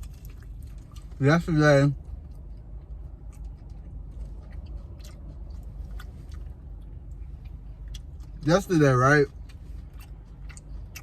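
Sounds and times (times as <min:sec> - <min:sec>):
person chewing food: 0:00.0 - 0:01.2, 0:02.0 - 0:08.4, 0:09.2 - 0:11.0.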